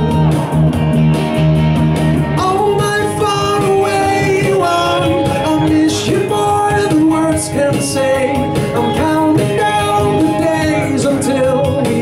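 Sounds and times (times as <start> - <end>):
pop-rock song with drum machine: 0.0 - 12.0.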